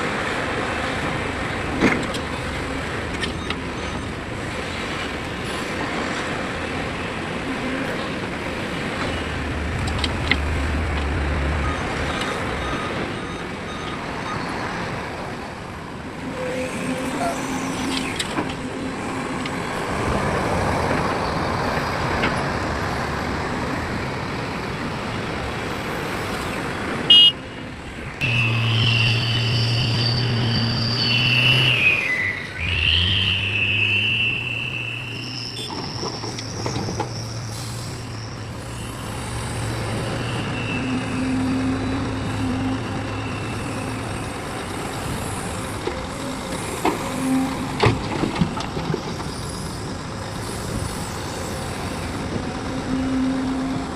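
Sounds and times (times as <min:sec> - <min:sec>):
heavy trucks on road: 0:00.0 - 0:53.9.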